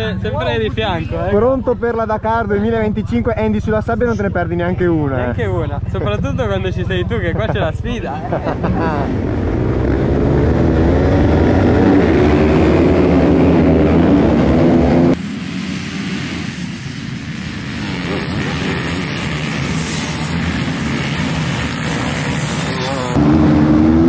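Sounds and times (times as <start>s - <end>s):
off-road motorcycles revving: 0.0s - 24.0s.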